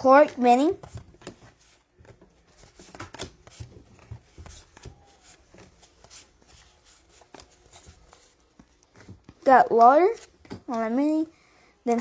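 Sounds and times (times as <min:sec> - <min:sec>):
trading cards clicking and rustling: 0:00.2 - 0:11.2.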